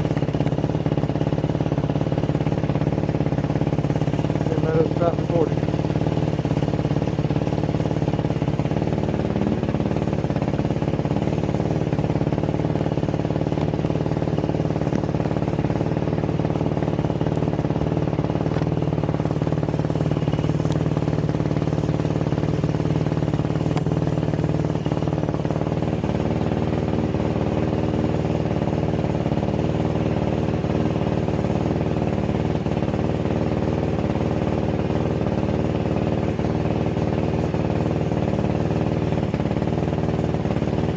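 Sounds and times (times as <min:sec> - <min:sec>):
quad engine idling: 0:00.0 - 0:40.9.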